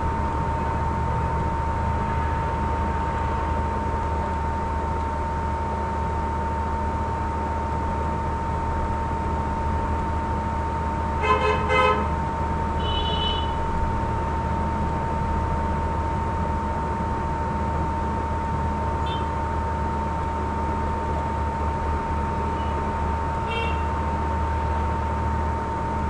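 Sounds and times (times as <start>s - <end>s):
low hum with thin whine: 0.0s - 26.0s.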